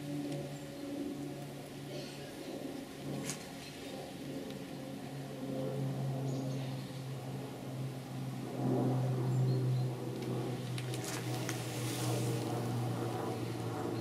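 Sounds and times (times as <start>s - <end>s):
honeybee colony humming: 0.0s - 14.0s.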